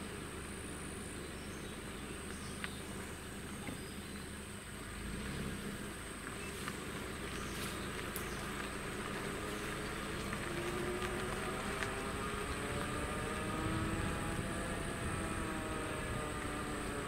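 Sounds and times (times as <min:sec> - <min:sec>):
car engine hum inside cabin: 0:00.0 - 0:17.0.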